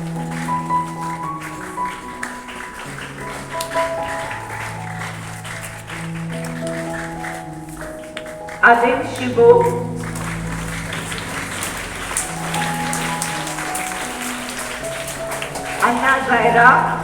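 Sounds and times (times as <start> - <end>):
instrumental music with held notes: 0.0 - 17.0
light clapping: 0.0 - 17.0.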